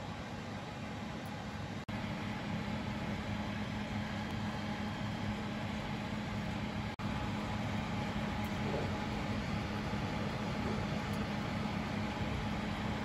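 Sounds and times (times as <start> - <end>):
oven humming and hissing: 0.0 - 13.0.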